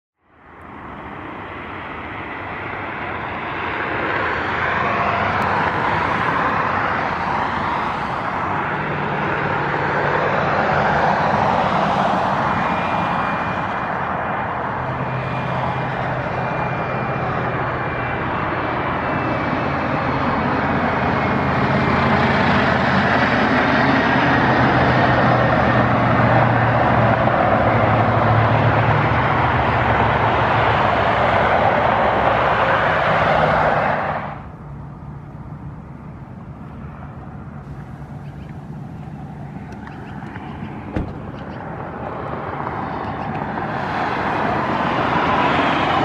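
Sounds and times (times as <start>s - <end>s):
jet engines rushing and whining: 0.2s - 46.0s.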